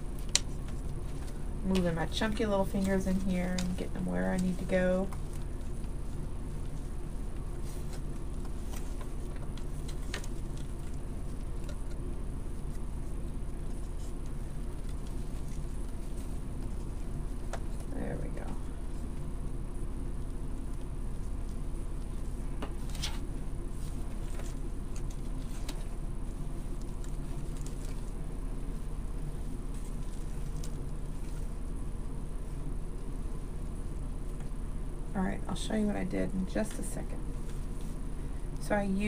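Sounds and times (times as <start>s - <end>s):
faint crinkles and clicks: 0.0s - 35.1s
faint rustling: 0.0s - 39.0s
steady low hum: 0.0s - 39.0s.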